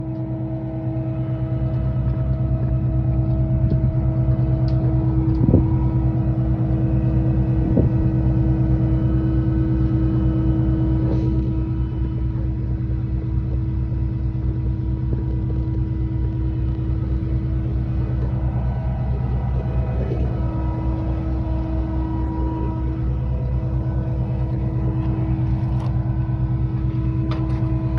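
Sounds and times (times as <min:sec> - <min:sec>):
engine droning: 0:00.0 - 0:27.9.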